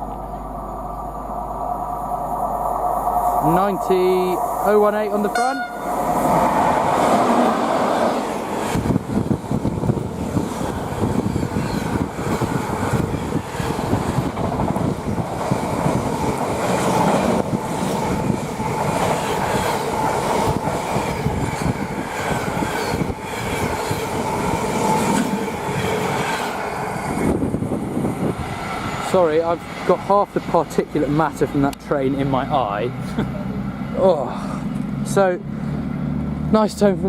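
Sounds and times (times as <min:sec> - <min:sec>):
train wheels rushing over rails: 0:02.0 - 0:32.8.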